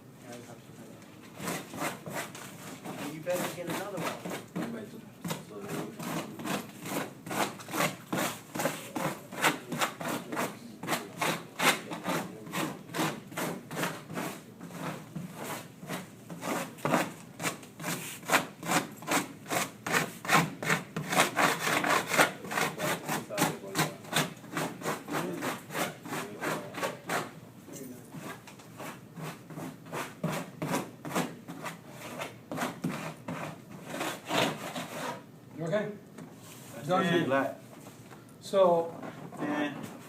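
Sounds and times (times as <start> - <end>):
scraper rubbing tape: 1.3 - 27.3, 28.2 - 35.2.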